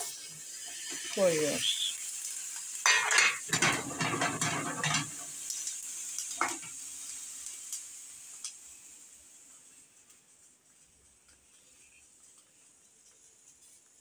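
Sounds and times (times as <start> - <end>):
peppers sizzling in a pan: 0.0 - 14.0.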